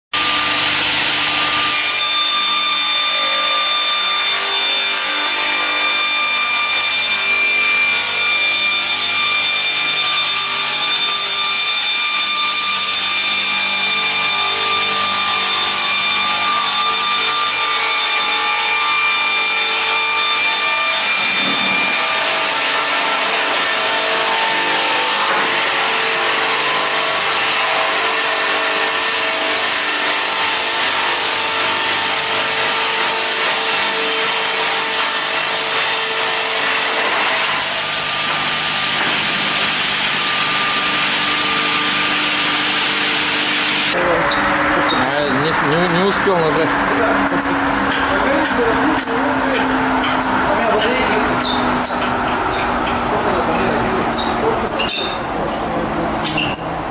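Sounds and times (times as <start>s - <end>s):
sawmill saw whining: 0.2s - 56.9s.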